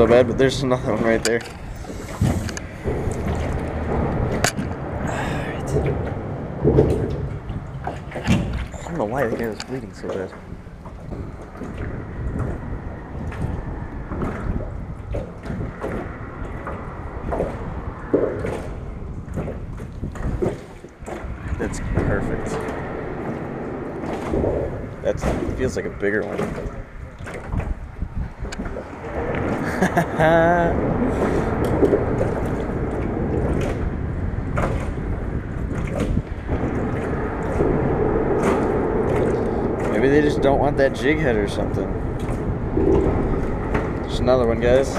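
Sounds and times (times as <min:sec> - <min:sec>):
steady low rushing noise: 0:00.0 - 0:44.9
water lapping against boat hull: 0:00.0 - 0:44.9
wind buffeting microphone: 0:00.0 - 0:44.9.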